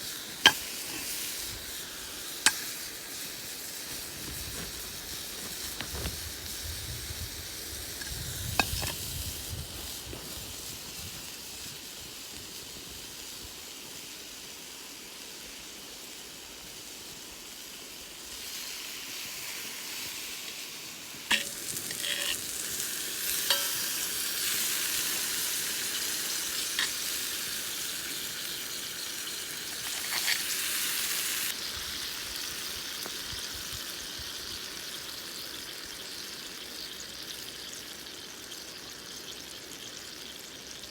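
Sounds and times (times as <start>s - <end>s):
food sizzling in a skillet: 0.0s - 40.9s.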